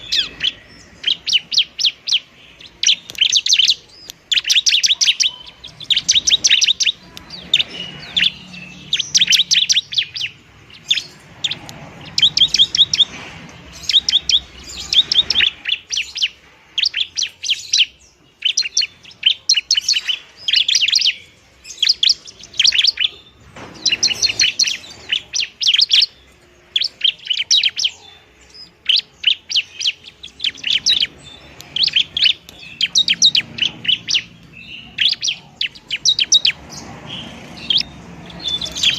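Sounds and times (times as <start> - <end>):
bird chirping trills: 0.0 - 38.9.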